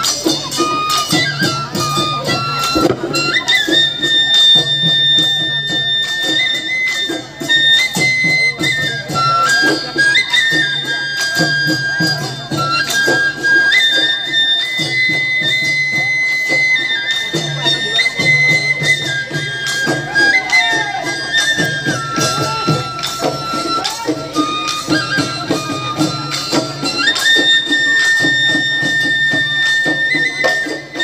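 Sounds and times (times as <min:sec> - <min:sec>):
drums beating: 0:00.0 - 0:31.0
wind instrument holding long notes: 0:00.0 - 0:31.0.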